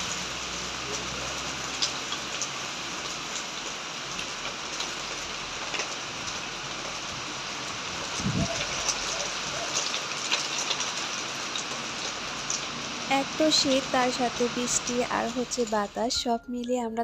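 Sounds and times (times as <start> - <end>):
heavy rain pouring: 0.0 - 16.1.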